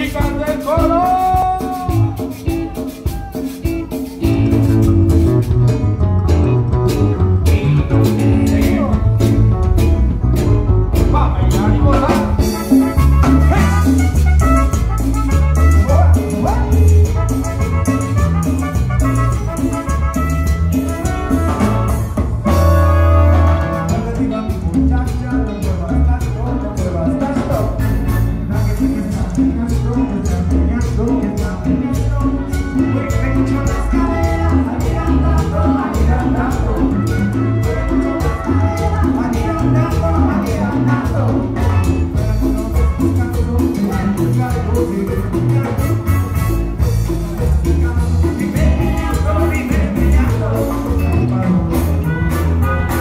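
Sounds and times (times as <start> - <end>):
person singing: 0.0 - 5.7, 6.4 - 9.4, 11.0 - 53.0
live band playing dance music: 0.0 - 53.0.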